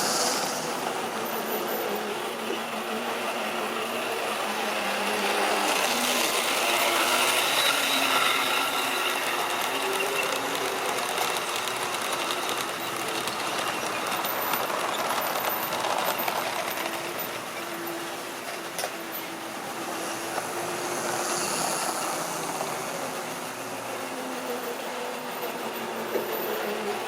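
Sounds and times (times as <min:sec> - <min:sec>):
wheels clicking over rails: 0:00.0 - 0:27.0.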